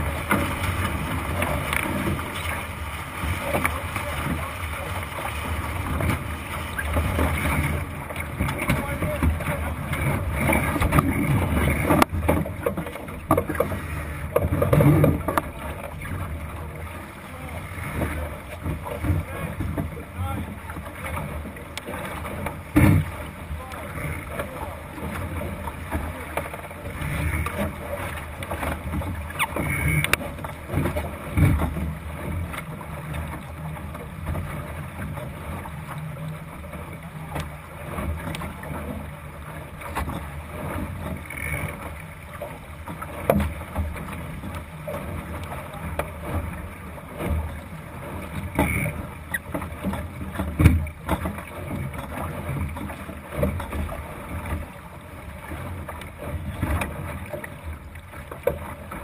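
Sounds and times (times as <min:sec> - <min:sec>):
water rushing along a hull: 0:00.0 - 0:59.0.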